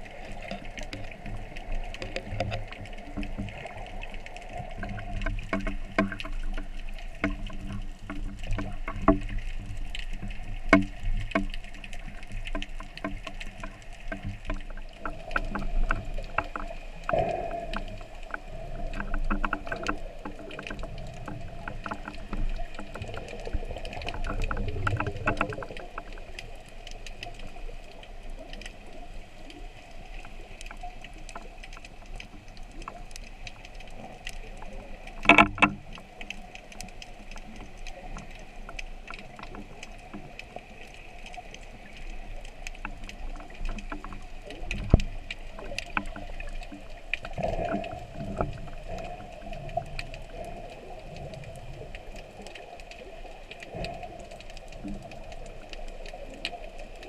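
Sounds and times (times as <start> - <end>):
underwater clicks and crackles: 0.0 - 57.0.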